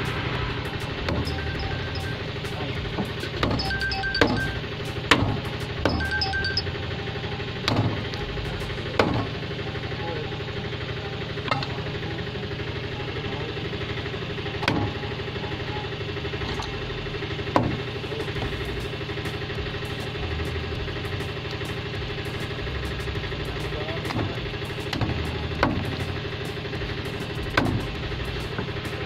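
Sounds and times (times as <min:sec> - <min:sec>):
steady engine drone: 0:00.0 - 0:29.0.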